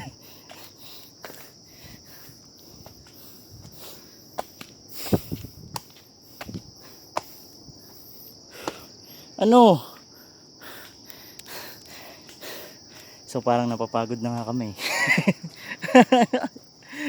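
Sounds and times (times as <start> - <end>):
footsteps on a trail: 0.0 - 9.1, 9.9 - 16.8
insect chirring: 0.0 - 17.0.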